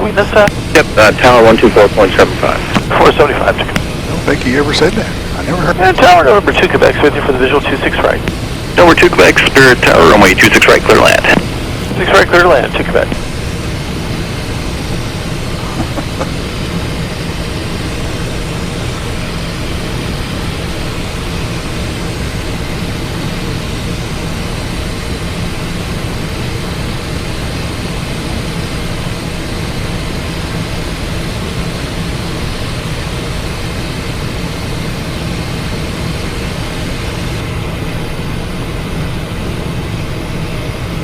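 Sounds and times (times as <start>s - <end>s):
jet engines humming: 0.0s - 41.0s.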